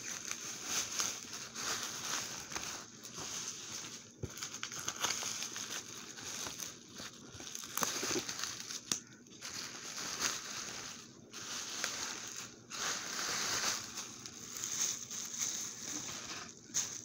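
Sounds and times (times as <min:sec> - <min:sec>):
plastic bags and paper rustling: 0:00.0 - 0:17.0.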